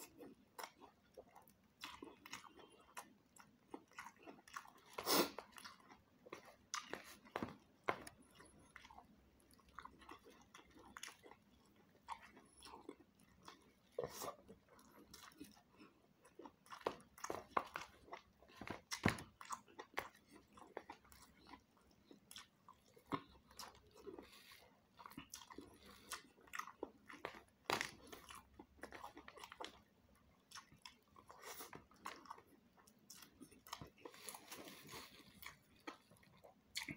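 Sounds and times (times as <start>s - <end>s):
close-up chewing food: 0.0s - 36.9s.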